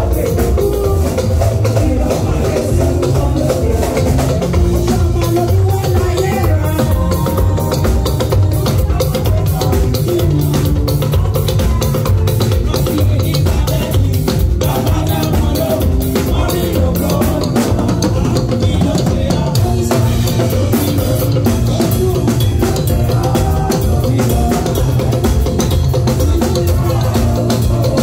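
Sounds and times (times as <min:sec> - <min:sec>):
drum kit groove: 0:00.0 - 0:28.0.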